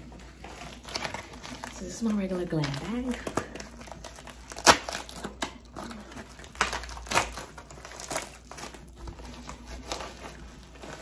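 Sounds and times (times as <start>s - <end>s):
plastic bag crinkling and tearing: 0.0s - 11.0s.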